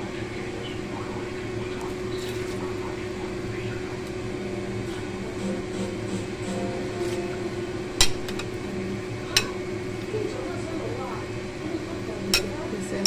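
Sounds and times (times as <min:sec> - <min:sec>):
machine hum with tone: 0:00.0 - 0:13.0.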